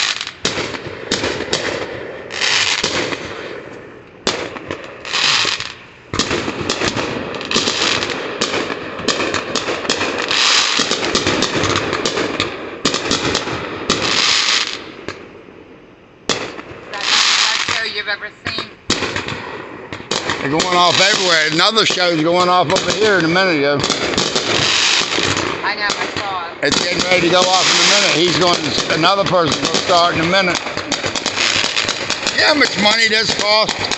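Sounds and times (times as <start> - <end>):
fireworks bangs: 0.0 - 33.9
fireworks crackling: 0.0 - 33.9.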